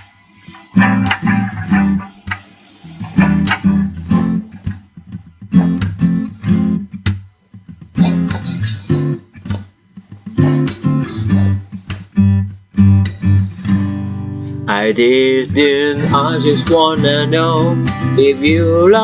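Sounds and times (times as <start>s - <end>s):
rhythmic guitar strumming: 0.0s - 19.0s.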